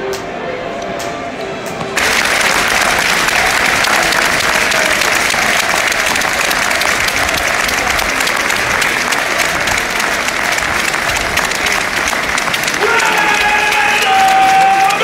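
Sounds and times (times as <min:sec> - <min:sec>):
stadium crowd applauding: 0:02.0 - 0:15.0.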